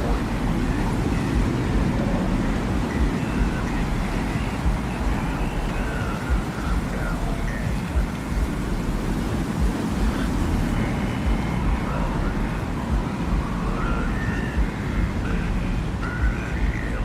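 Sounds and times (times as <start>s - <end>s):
deep wind rumble: 0.0s - 17.0s
faint high wavering tones: 0.0s - 17.0s.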